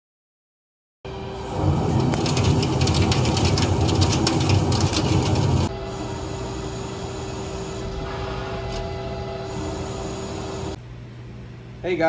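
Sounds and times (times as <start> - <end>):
lathe spindle rumble: 1.1 - 10.8.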